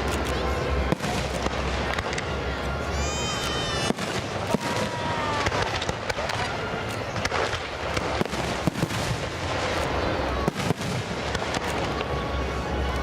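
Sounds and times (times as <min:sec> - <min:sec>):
fireworks bangs and crackles: 0:00.0 - 0:13.0
fireworks rumble: 0:00.0 - 0:13.0.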